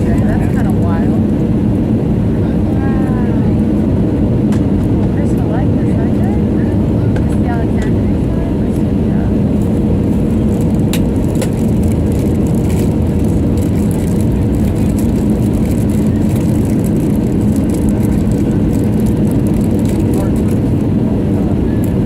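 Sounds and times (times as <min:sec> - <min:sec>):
airliner cabin engine noise: 0:00.0 - 0:22.0.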